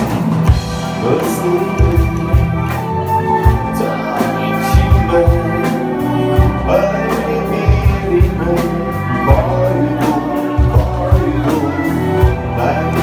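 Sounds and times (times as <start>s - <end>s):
drum kit beat: 0.0s - 13.0s
electric guitar: 0.0s - 13.0s
bowed violin: 0.4s - 13.0s.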